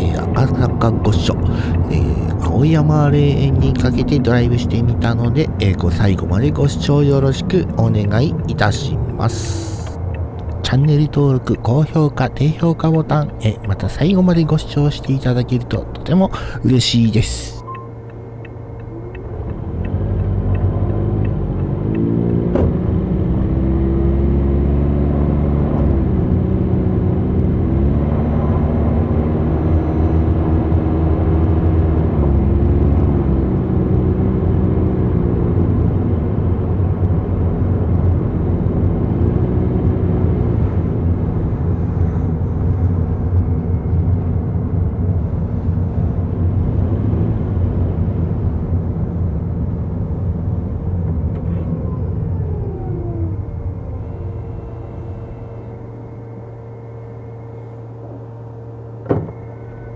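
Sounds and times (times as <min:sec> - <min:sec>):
car engine revving: 0:00.0 - 0:16.7, 0:17.3 - 0:59.9
road rumble: 0:00.0 - 0:59.9.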